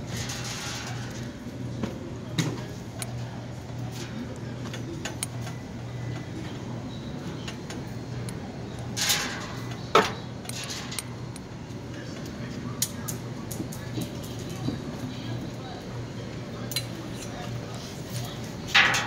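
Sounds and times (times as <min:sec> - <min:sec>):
machines humming: 0:00.0 - 0:19.0.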